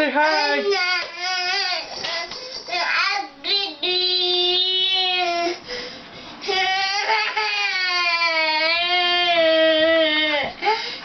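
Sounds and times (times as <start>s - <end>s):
toddler crying and wailing: 0.2s - 5.6s, 6.5s - 10.8s.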